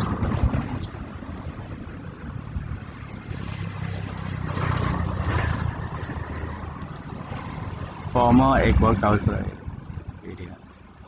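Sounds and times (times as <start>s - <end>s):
road noise: 0.0s - 11.0s
wind noise: 0.0s - 11.0s.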